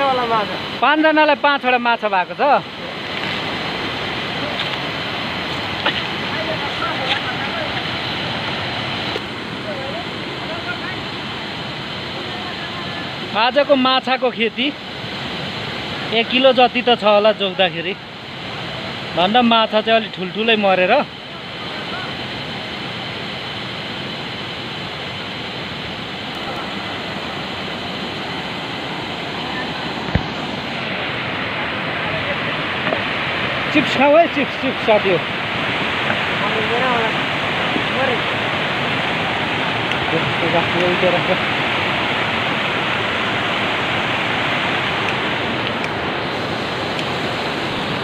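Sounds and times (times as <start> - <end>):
river rushing over rocks: 0.0 - 48.0.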